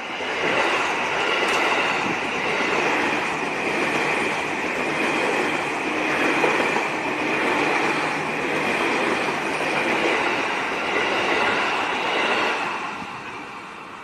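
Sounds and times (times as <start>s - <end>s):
train wheels rattling on rails: 0.0s - 14.0s.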